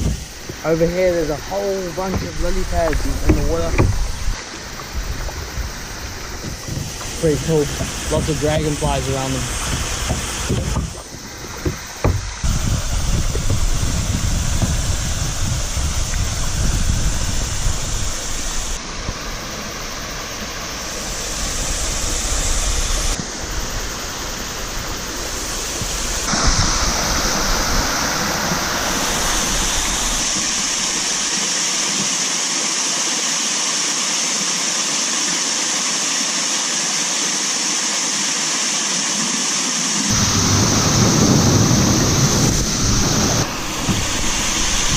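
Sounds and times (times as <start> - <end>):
small waterfall rushing: 0.0 - 44.9.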